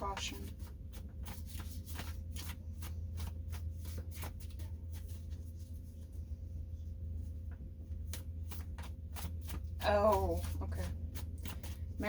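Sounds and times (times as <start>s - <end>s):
cards being shuffled: 0.0s - 6.0s, 8.0s - 12.0s
steady low hum: 0.0s - 12.0s.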